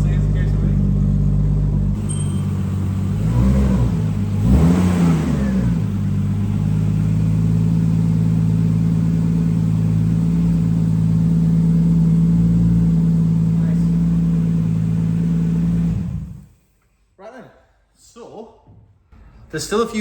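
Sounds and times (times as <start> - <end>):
car engine revving and idling: 0.0 - 16.6.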